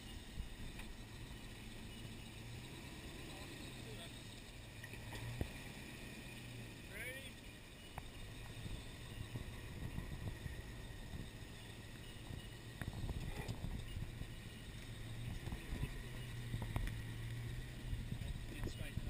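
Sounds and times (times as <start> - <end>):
off-road vehicle engine at low revs: 0.0 - 19.0.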